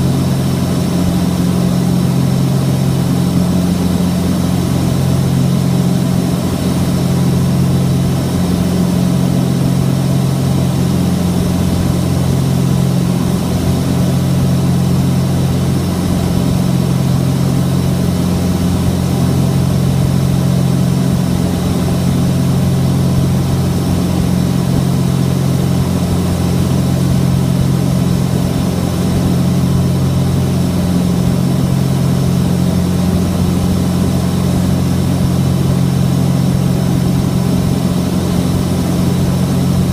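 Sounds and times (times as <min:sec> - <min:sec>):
twin propeller aircraft engines droning: 0:00.0 - 0:39.9.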